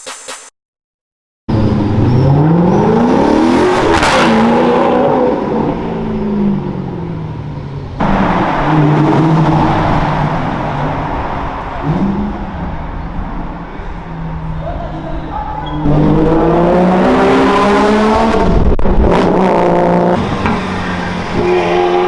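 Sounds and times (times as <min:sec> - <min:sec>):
car engine at steady pitch: 0:01.5 - 0:22.0
supercar engine accelerating: 0:01.5 - 0:22.0.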